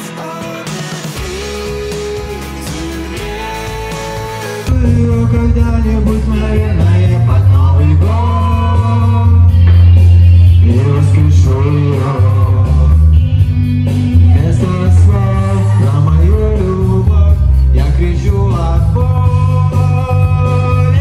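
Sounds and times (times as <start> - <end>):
man singing into microphone: 0.0 - 13.4, 14.1 - 21.0
backing track with heavy bass: 0.0 - 21.0.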